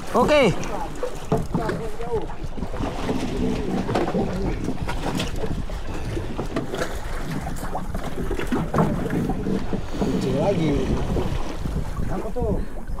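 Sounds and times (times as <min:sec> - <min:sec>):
waves splashing against boat: 0:00.0 - 0:13.0
wind buffeting microphone: 0:00.0 - 0:13.0.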